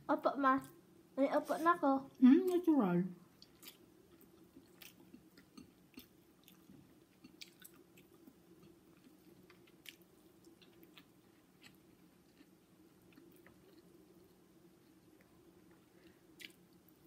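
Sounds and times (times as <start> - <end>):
low steady hum: 0.0 - 17.0
people chewing food: 3.3 - 17.0.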